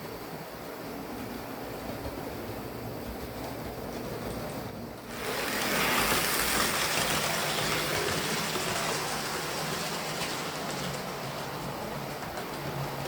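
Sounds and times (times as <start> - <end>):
model train whirring on track: 0.0 - 13.0.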